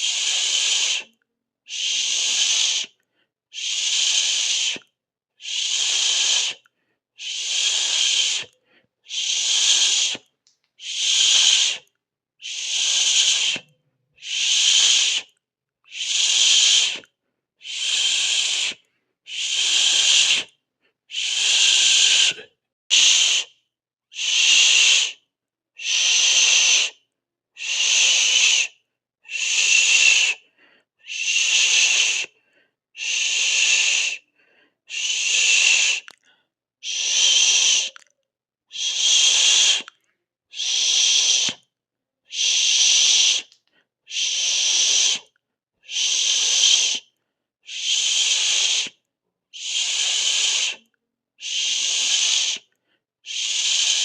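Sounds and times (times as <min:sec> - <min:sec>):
person hissing: 0:00.0 - 0:25.2, 0:25.8 - 0:27.0, 0:27.6 - 0:32.4, 0:33.0 - 0:34.3, 0:34.9 - 0:36.2, 0:36.8 - 0:38.0, 0:38.7 - 0:41.7, 0:42.3 - 0:47.1, 0:47.7 - 0:49.0, 0:49.6 - 0:54.0.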